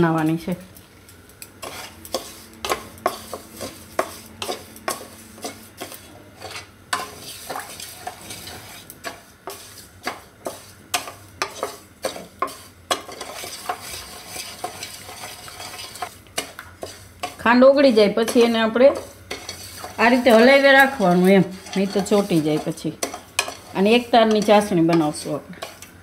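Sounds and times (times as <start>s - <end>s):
syrup sizzling: 0.0s - 26.0s
wooden spatula scraping pan: 1.6s - 26.0s.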